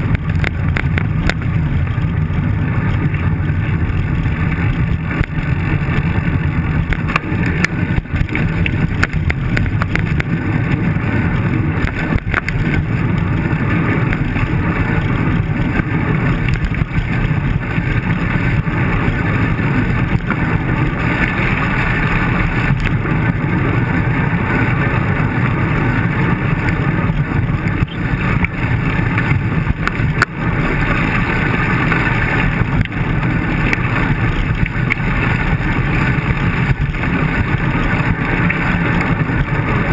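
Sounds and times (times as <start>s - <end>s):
bike clicks and rattles: 0.0s - 39.9s
car traffic: 0.0s - 39.9s
tyres on rough pavement: 0.0s - 39.9s
wind buffeting microphone: 0.0s - 39.9s.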